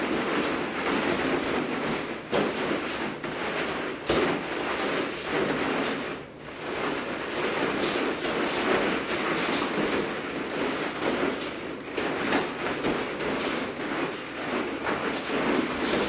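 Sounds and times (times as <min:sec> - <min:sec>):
bare feet shuffling on mat: 0:00.0 - 0:16.0
fabric rustling: 0:00.0 - 0:16.0.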